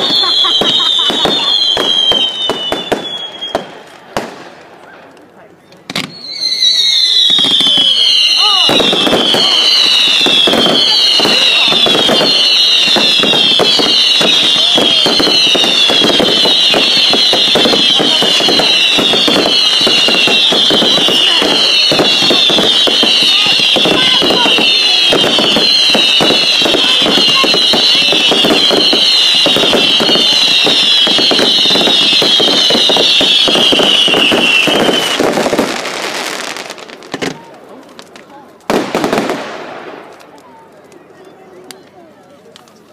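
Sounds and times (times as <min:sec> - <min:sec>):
fireworks whistling: 0:00.0 - 0:04.6, 0:05.9 - 0:37.5, 0:38.7 - 0:40.3
fireworks crackling: 0:00.0 - 0:42.9.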